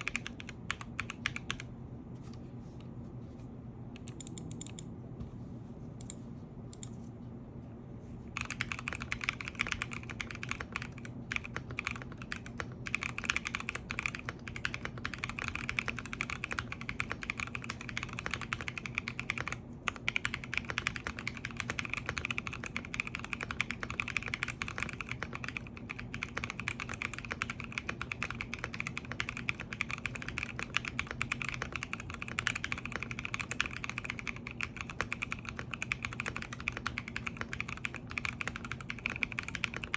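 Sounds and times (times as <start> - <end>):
mechanical keyboard typing: 0.0 - 1.7, 4.0 - 4.9, 8.4 - 39.9
low steady hum: 0.0 - 39.9.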